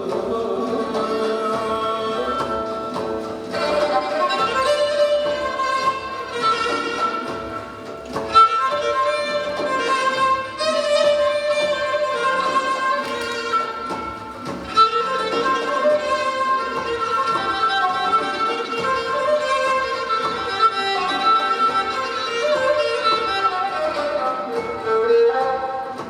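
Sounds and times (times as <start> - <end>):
bowed string melody: 0.0 - 26.0
instrumental folk ensemble music: 0.0 - 26.0.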